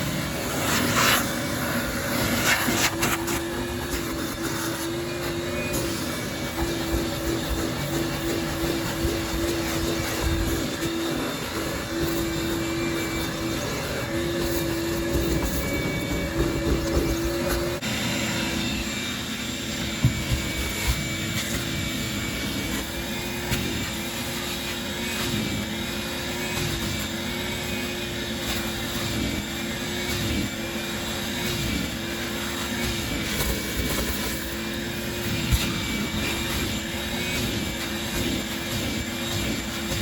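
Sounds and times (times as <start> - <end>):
motor humming: 0.0 - 40.0.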